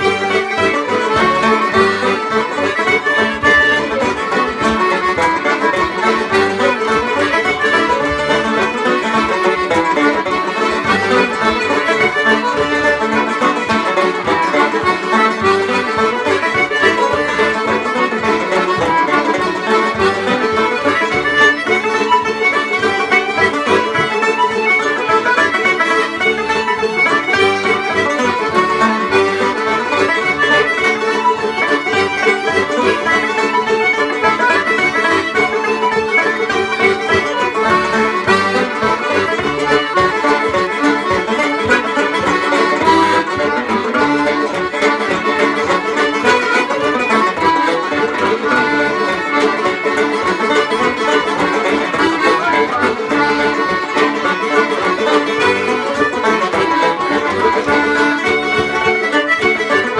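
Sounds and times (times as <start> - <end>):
banjo: 0.0 - 59.9
button accordion: 0.0 - 59.9.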